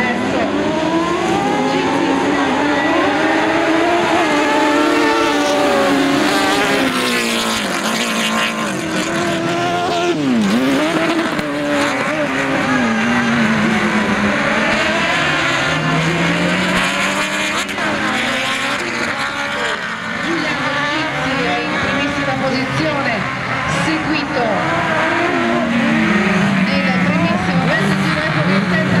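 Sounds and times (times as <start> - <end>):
racing buggy engines revving: 0.0 - 29.0.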